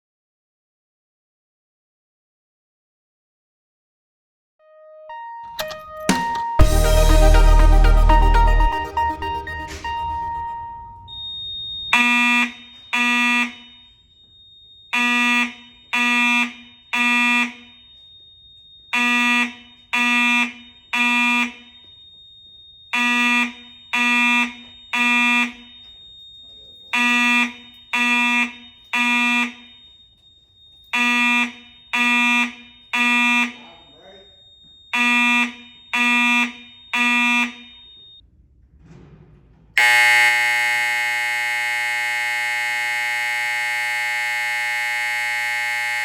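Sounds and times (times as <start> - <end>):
fire alarm horn blaring: 4.6 - 38.2, 39.8 - 46.0.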